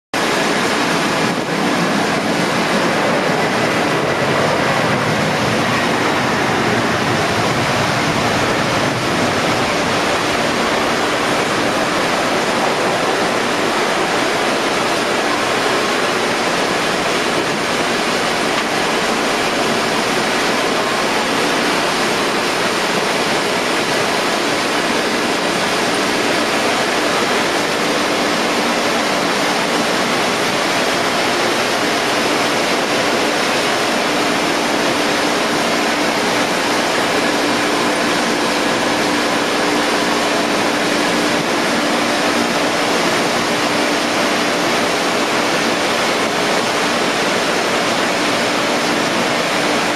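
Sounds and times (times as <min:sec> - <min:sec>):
jet airliner engine roaring: 0:00.2 - 0:49.9.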